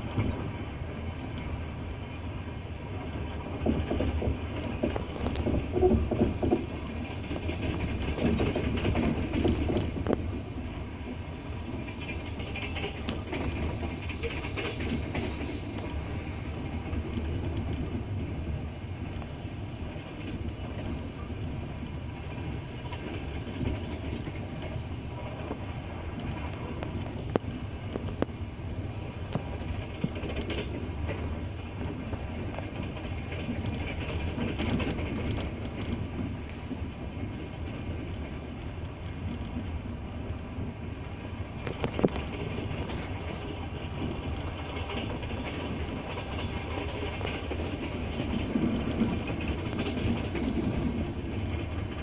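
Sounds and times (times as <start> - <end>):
train wheels clattering on rails: 0.0 - 52.0.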